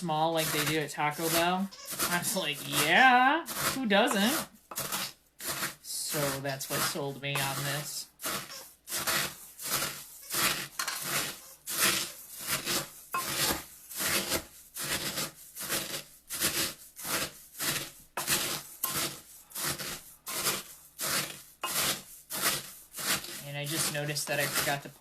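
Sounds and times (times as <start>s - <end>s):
cornflakes crunching in a bowl: 0.0s - 25.0s.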